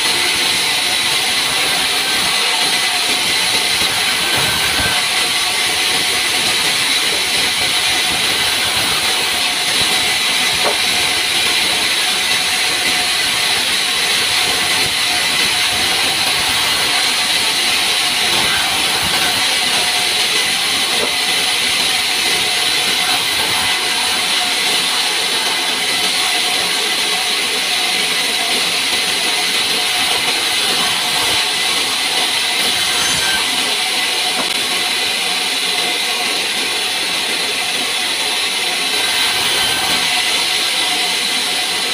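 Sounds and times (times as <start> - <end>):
band saw blade cutting wood: 0.0 - 41.9.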